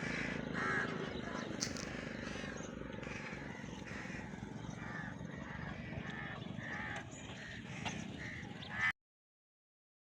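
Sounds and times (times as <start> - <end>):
birds harsh calls: 0.0 - 9.0.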